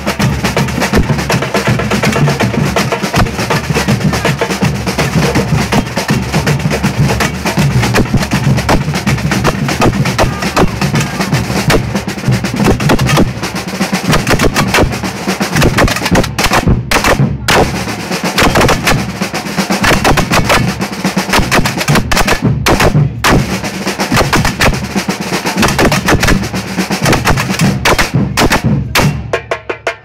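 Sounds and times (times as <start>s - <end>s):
samba drum corps playing: 0.0s - 30.0s.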